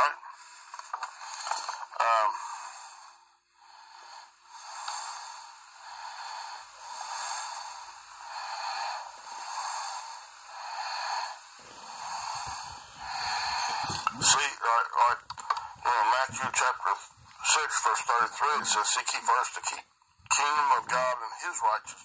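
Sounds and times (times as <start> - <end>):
man breathing close to microphone: 0.2 - 19.0.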